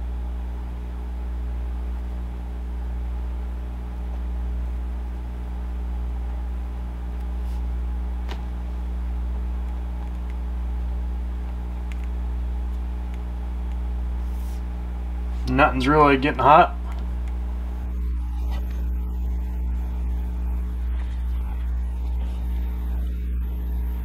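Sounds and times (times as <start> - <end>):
cooling fan humming: 0.0 - 24.0.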